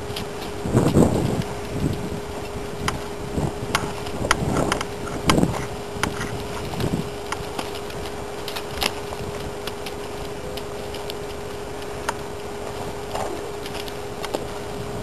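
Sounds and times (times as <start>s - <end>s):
hooves thudding on dirt: 0.0s - 15.0s
steady hum: 0.0s - 15.0s.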